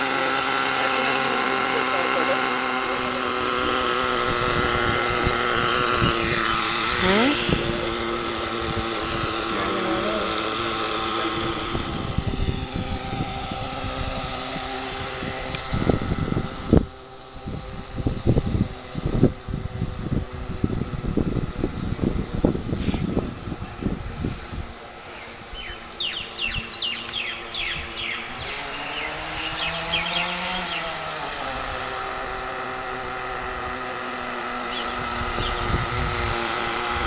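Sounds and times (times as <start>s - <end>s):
small nitro engine whining: 0.0s - 37.0s.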